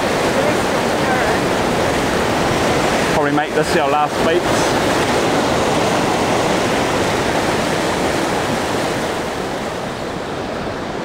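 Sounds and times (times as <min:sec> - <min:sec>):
surf washing through shallow water: 0:00.0 - 0:11.0.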